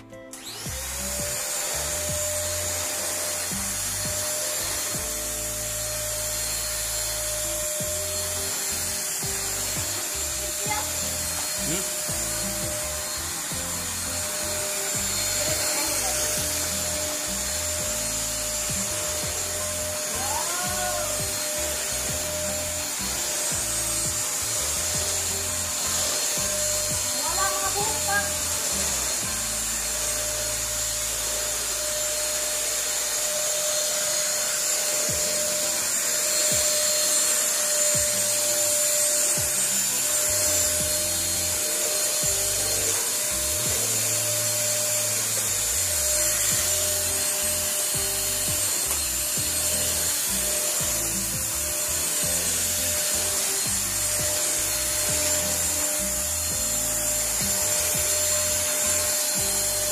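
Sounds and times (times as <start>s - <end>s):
background music with bass: 0.0s - 31.2s, 39.4s - 59.9s
vacuum cleaner running: 0.0s - 59.9s.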